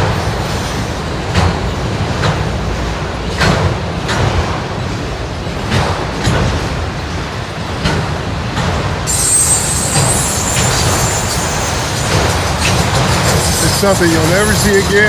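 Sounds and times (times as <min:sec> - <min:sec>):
freight train rumble: 0:00.0 - 0:15.0
train wheels clicking over rail joints: 0:00.0 - 0:15.0.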